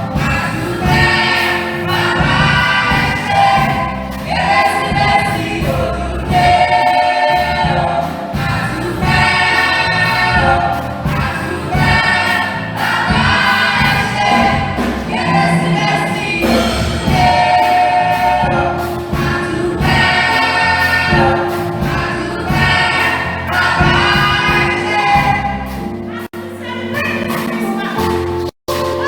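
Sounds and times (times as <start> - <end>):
choir singing in harmony: 0.0 - 29.0
low accompanying notes: 0.0 - 29.0.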